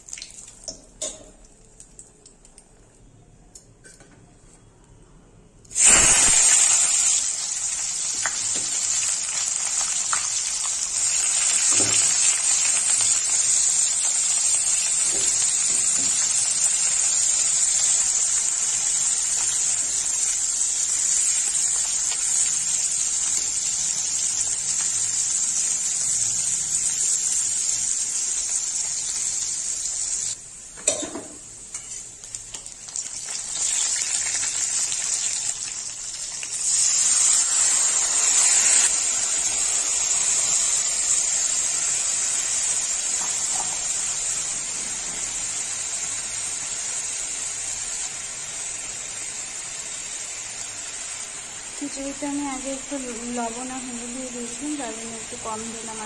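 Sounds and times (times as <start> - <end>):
onions sizzling in hot oil: 0.0 - 2.4, 5.7 - 56.0.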